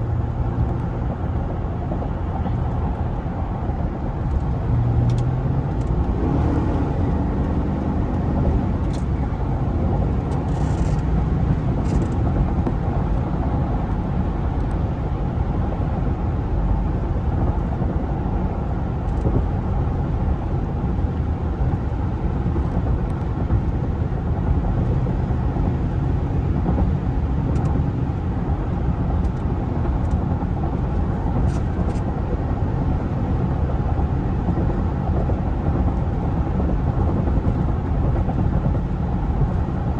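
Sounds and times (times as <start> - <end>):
car engine driving: 0.0 - 39.9
road noise: 0.0 - 39.9.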